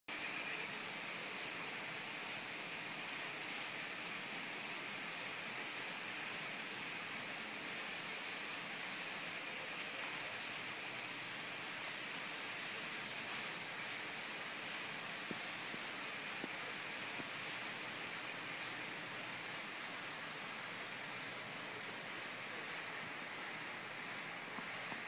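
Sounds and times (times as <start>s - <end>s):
outdoor ambience hiss: 0.1s - 25.0s.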